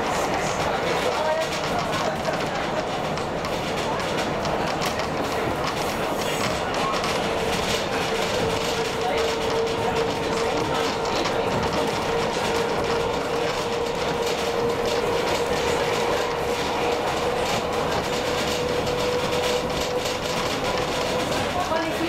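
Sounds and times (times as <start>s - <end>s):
train rolling on track: 0.0s - 22.0s.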